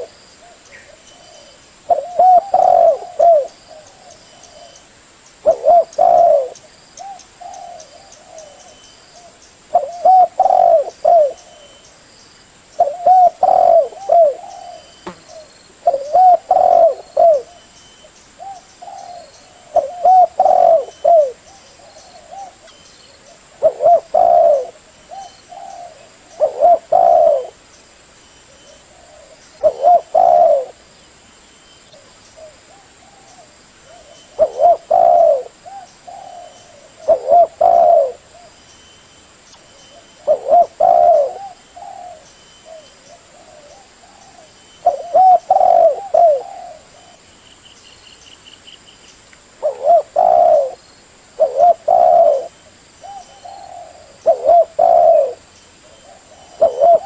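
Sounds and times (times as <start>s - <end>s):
dove cooing: 0.0s - 4.8s, 5.4s - 11.8s, 12.8s - 17.7s, 18.4s - 27.6s, 28.5s - 30.9s, 32.0s - 38.6s, 39.7s - 47.3s, 49.6s - 50.8s, 51.4s - 57.0s.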